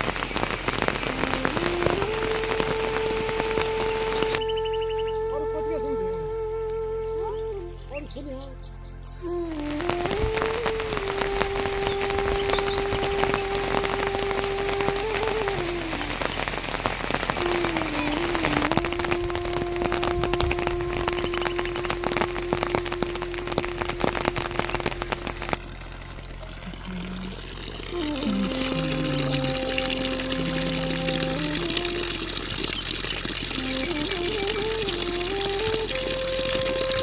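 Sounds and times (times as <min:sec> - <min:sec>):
heavy rain falling: 0:00.0 - 0:04.4, 0:09.6 - 0:37.0
low sliding musical tone: 0:01.0 - 0:16.3, 0:17.4 - 0:37.0.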